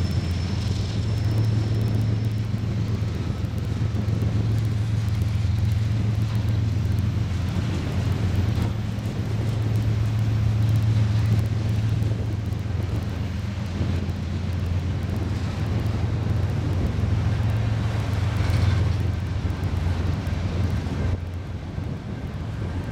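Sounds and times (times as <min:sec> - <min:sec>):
freight train rumbling: 0:00.0 - 0:22.9
wind on microphone: 0:00.0 - 0:22.9.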